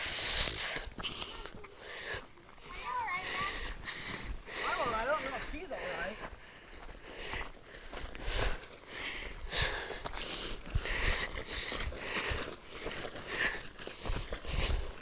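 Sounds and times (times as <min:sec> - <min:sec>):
person breathing: 0:00.0 - 0:02.3, 0:03.2 - 0:15.0
footsteps on dirt trail: 0:00.7 - 0:15.0.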